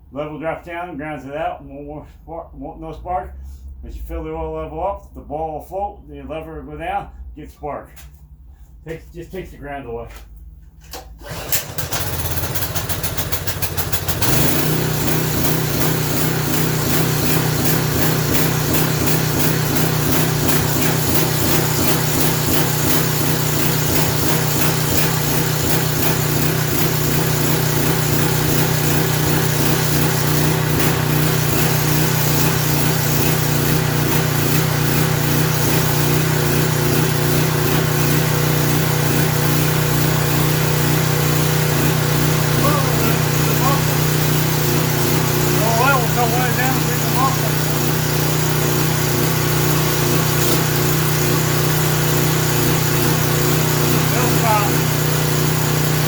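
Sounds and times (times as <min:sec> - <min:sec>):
small engine starting and running: 0:10.8 - 0:56.0.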